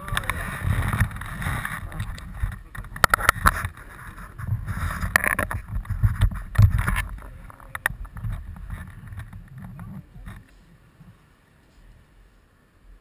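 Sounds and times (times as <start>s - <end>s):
fabric rubbing on microphone: 0.0s - 12.5s
handling rumble: 0.0s - 13.0s
small clicks and knocks: 0.1s - 10.6s.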